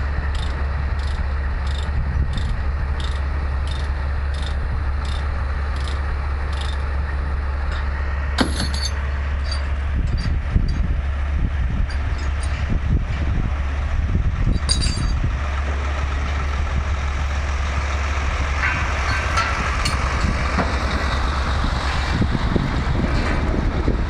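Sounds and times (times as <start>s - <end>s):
diesel truck engine idling: 0.0s - 24.0s
passing truck: 0.0s - 24.0s.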